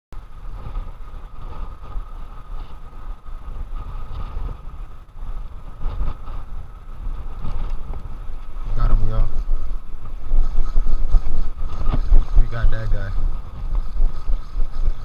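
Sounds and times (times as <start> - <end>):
wind buffeting microphone: 0.2 - 15.0.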